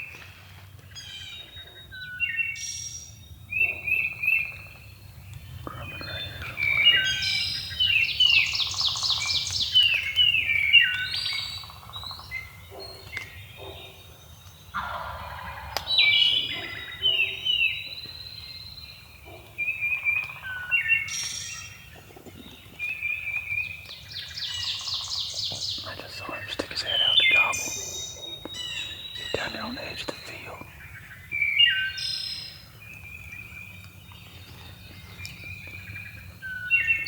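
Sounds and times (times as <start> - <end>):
songbirds singing: 0.0 - 37.0.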